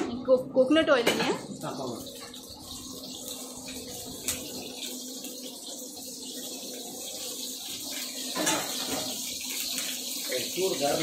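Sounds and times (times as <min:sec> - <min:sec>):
gas burners hissing: 0:00.0 - 0:11.0.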